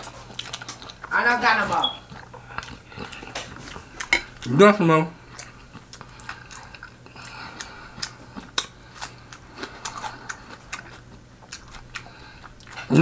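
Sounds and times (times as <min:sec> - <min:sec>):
person chewing soft food: 0:00.0 - 0:01.2, 0:01.8 - 0:13.0.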